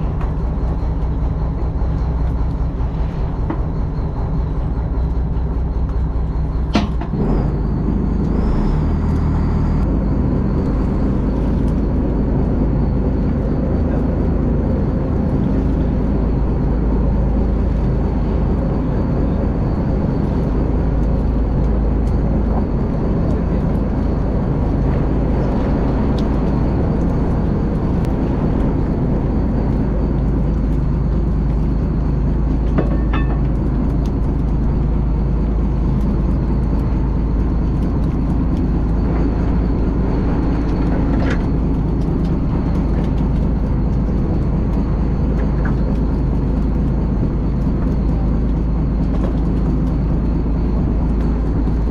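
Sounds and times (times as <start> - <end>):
boat engine rumbling: 0.0 - 51.9.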